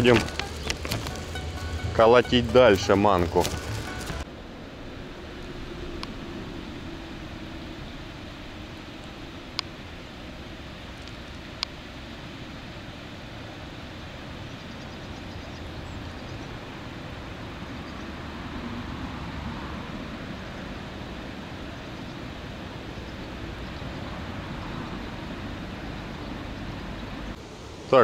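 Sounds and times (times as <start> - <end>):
distant city traffic rumble: 0.0 - 28.0.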